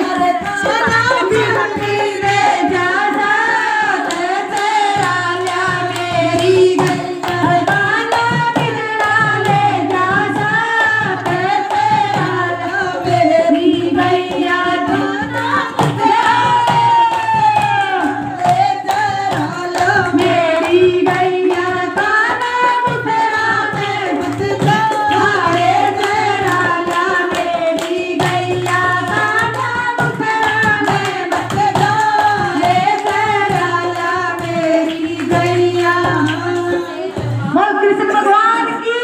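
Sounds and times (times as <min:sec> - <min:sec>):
hand drum steady rhythm: 0:00.0 - 0:39.0
voices singing devotional song: 0:00.0 - 0:39.0.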